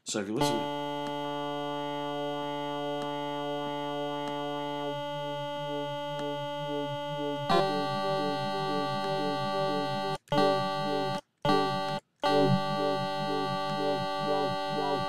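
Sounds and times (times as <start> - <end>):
synth pad with wobble: 0.4 - 15.0.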